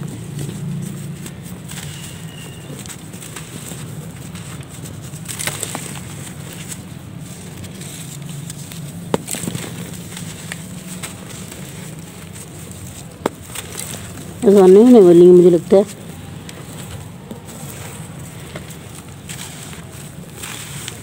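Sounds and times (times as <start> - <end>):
dry clay crumbling in hands: 0.0 - 21.0.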